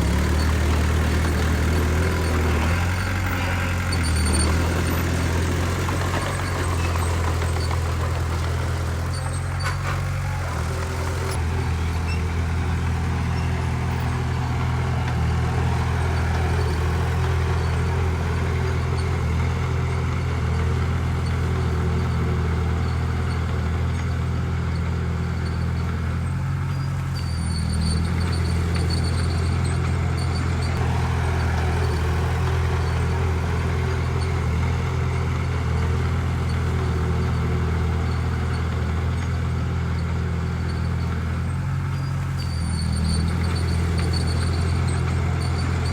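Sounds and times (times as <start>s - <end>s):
heavy diesel engine droning: 0.0s - 45.9s.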